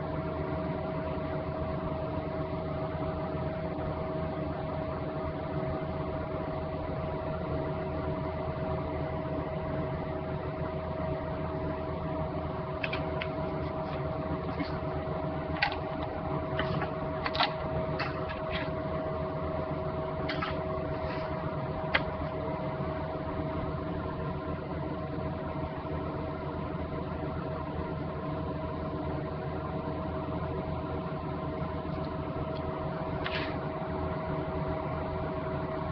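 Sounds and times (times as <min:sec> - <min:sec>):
mechanical hum with whine: 0:00.0 - 0:35.9.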